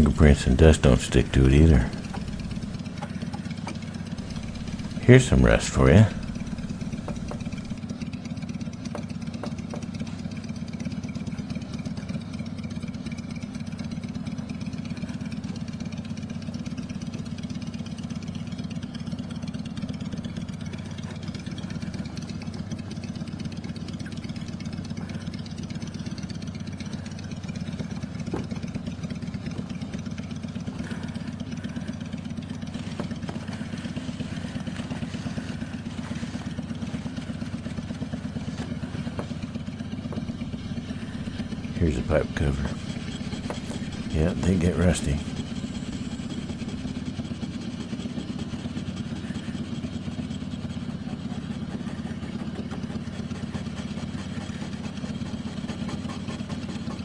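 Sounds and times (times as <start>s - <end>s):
engine idling rumble: 0.0s - 57.0s.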